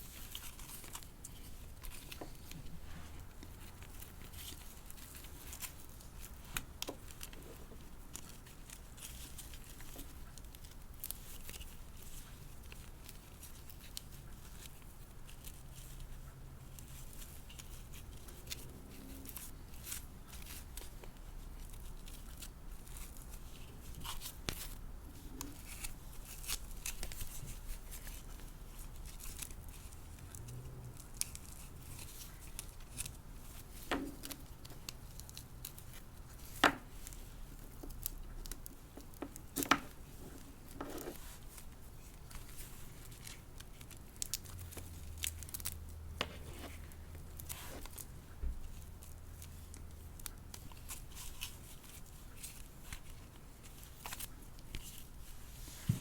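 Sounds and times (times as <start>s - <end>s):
soft rustles of packaging: 0.0s - 56.0s.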